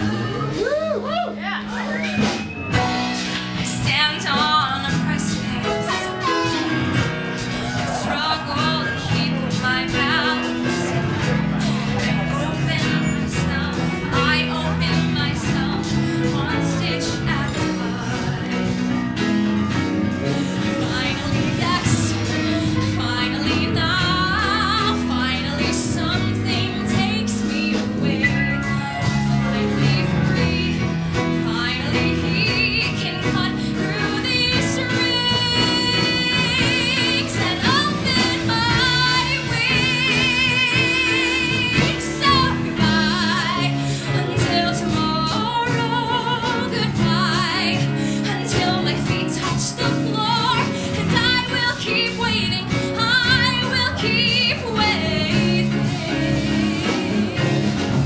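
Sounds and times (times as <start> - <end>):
woman singing: 0.0 - 1.4, 2.7 - 58.0
bass: 0.0 - 58.0
drums: 0.0 - 58.0
piano: 0.0 - 58.0.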